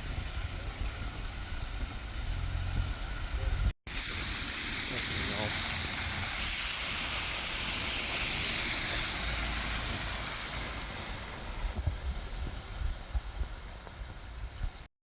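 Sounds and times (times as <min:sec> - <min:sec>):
wind buffeting microphone: 0:00.0 - 0:14.9
car splashing through flood water: 0:00.2 - 0:14.6.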